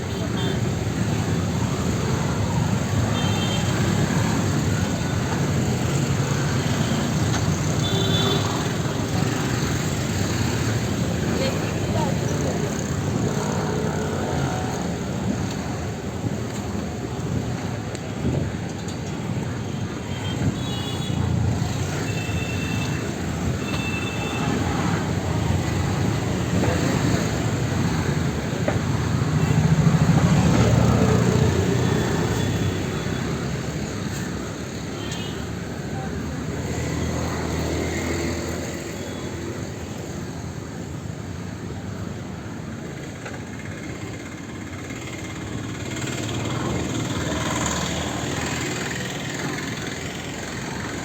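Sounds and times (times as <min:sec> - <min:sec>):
rumble of passing vehicles: 0:00.0 - 0:51.0.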